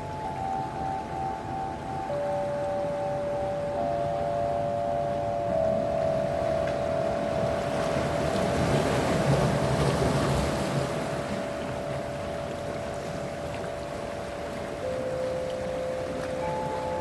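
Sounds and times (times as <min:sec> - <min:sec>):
drone of held tones: 0:00.0 - 0:10.4, 0:11.2 - 0:17.0
sea waves washing in: 0:00.0 - 0:17.0.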